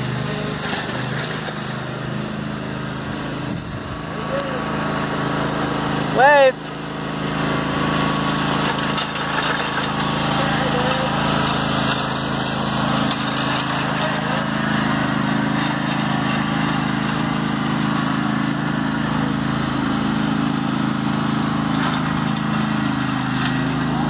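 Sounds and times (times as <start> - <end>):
riding lawn mower engine running: 0.0 - 24.0.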